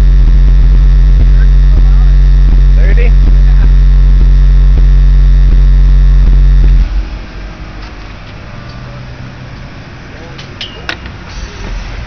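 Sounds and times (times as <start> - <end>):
deep bass tone from subwoofer: 0.0 - 10.3.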